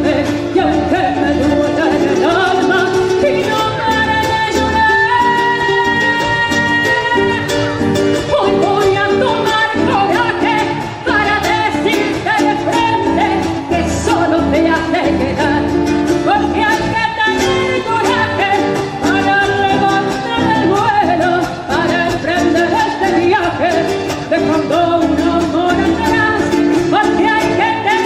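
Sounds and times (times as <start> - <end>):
latin pop song: 0.0 - 28.0.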